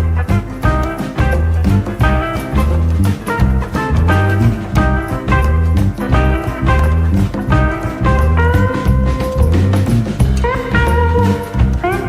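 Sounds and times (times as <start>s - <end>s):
upbeat swing music: 0.0s - 12.0s.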